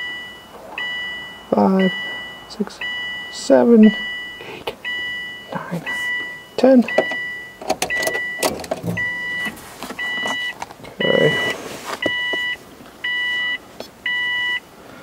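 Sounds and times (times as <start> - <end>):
dashboard warning chime beeping: 0.0 - 14.7.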